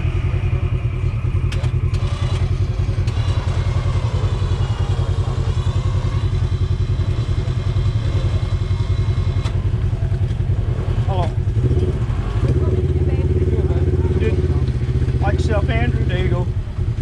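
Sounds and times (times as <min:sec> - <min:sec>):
engine idling with low pulsing beat: 0:00.0 - 0:17.0.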